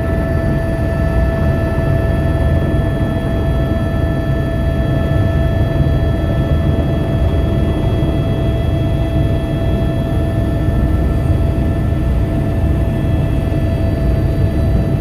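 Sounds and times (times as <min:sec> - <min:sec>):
helicopter turbine and rotor: 0:00.0 - 0:15.0.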